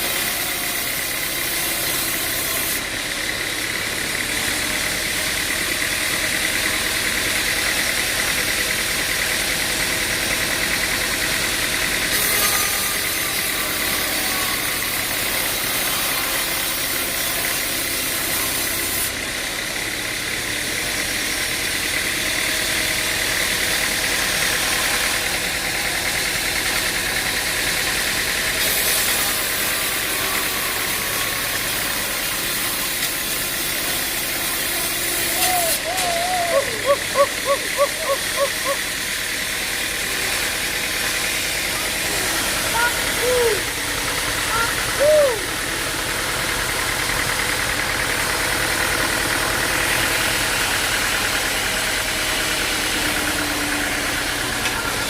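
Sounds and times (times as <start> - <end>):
machinery whining: 0.0 - 55.0.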